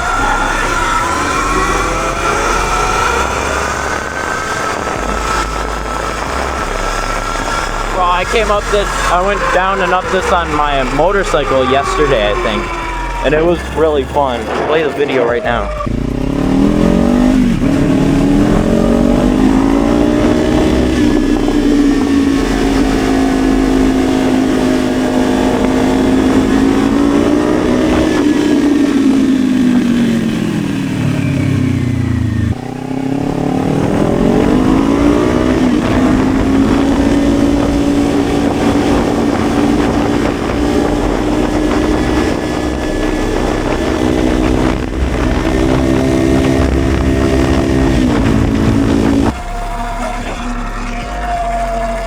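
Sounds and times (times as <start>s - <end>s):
dirt bike motor: 0.0s - 52.0s.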